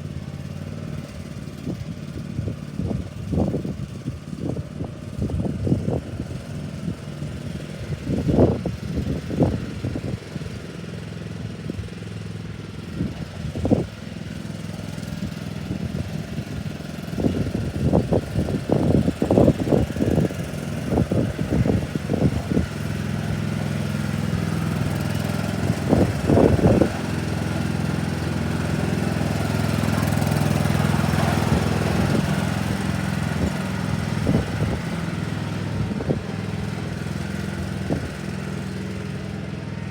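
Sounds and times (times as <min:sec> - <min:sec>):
riding lawnmower engine running: 0:00.0 - 0:39.9.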